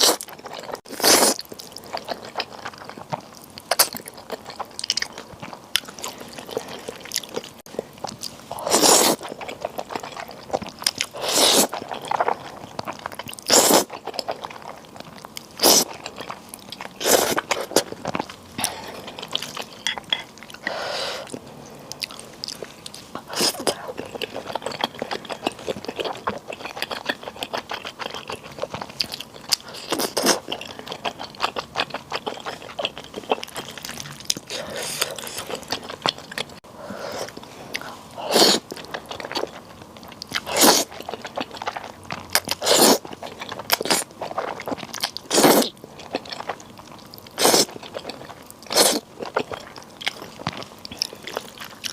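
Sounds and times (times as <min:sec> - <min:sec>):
person chewing and crunching food: 0:00.0 - 0:51.9.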